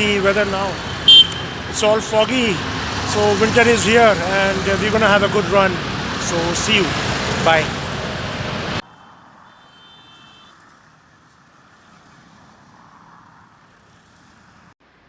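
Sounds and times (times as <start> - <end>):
distant road traffic hum: 0.0 - 15.0
loud outdoor noise: 0.0 - 15.0.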